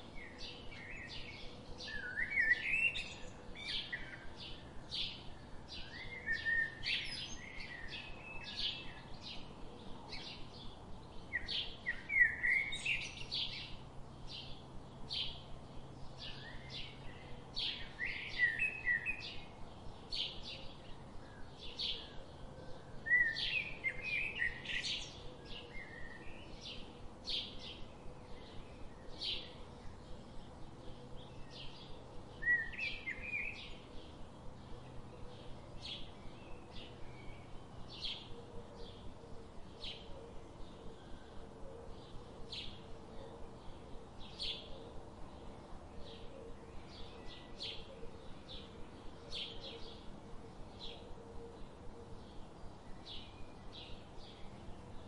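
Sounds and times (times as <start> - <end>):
songbirds chirping and warbling: 0.0 - 55.0.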